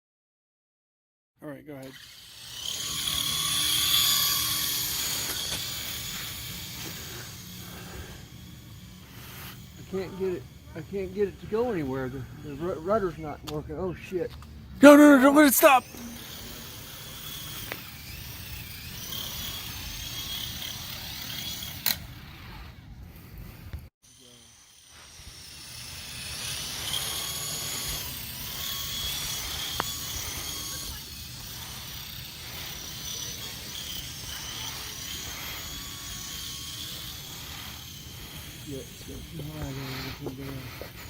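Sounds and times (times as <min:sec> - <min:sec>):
toy helicopter rotor hum: 0:01.6 - 0:41.0
high motor whine: 0:01.8 - 0:41.0.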